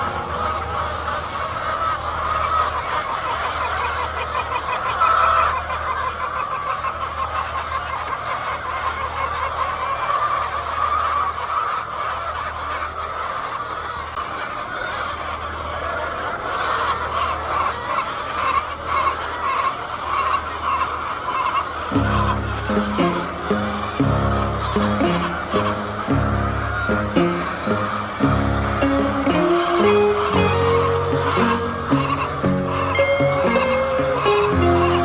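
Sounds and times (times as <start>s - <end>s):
hens clucking and calling: 0.0s - 35.0s.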